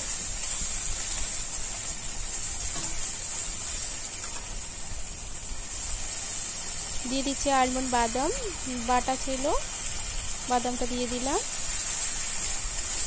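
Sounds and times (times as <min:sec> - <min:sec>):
paste sizzling in oil: 0:00.0 - 0:13.0.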